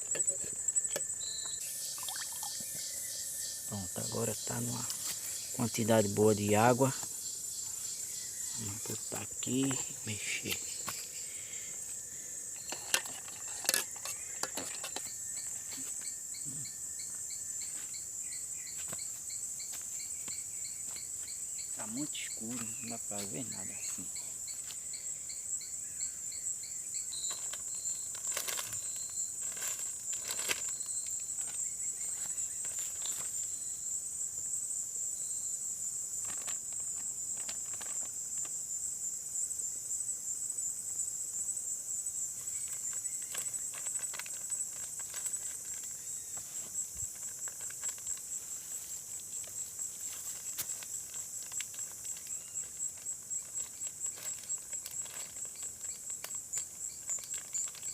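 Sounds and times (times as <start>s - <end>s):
insects trilling: 0.0s - 57.9s
pulsing insect chirp: 0.0s - 57.9s.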